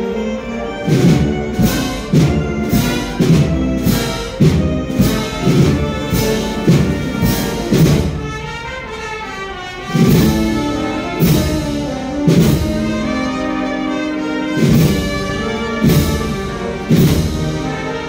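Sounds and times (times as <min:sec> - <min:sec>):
brass and woodwind chords: 0:00.0 - 0:18.0
steady drum beat: 0:00.8 - 0:08.6, 0:09.9 - 0:13.7, 0:14.3 - 0:18.0.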